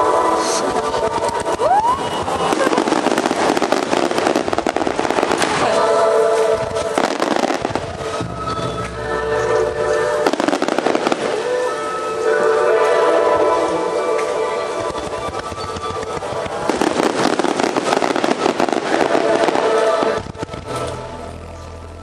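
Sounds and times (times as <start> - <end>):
firework shell whistling: 0.0 - 21.0
fireworks crackling bursts: 0.0 - 22.0
music with held notes: 0.0 - 22.0.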